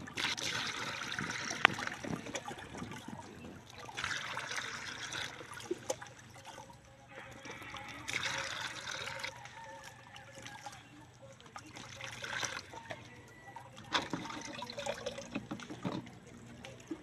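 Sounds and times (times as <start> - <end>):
liquid pouring into sprayer tank: 0.0 - 17.0.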